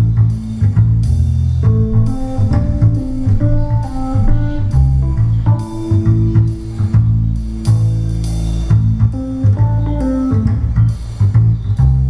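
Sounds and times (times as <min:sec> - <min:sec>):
instrumental music with bass and guitar: 0:00.0 - 0:12.0.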